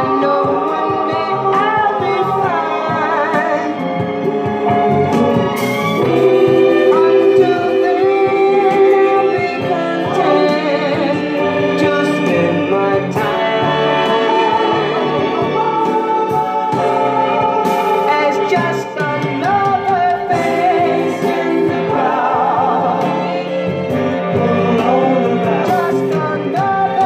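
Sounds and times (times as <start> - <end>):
instrumental backing: 0.0 - 27.0
vocal group singing in harmony: 0.0 - 27.0.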